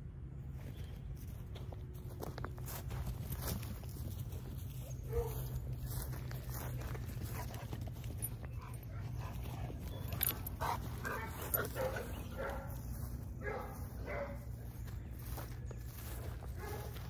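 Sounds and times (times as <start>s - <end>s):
footsteps through grass: 0.5s - 17.0s.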